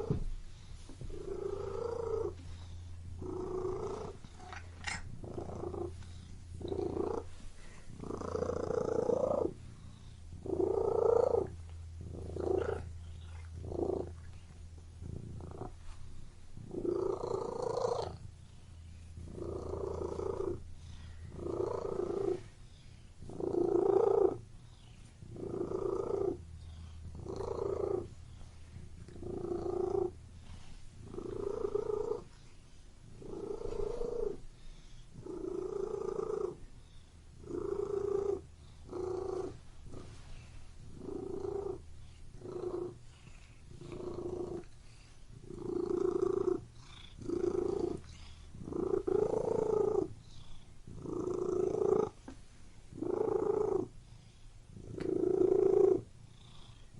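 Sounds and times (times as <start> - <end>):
cat purring: 0.0 - 56.9.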